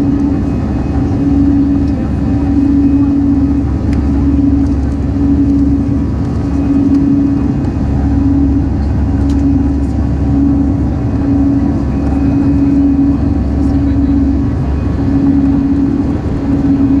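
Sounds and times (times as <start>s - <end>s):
engine drone with low rumble: 0.0s - 17.0s.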